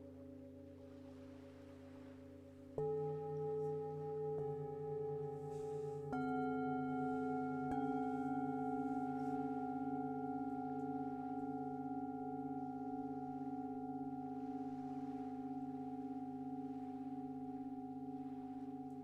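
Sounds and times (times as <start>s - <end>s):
singing bowls ringing: 2.2s - 19.0s.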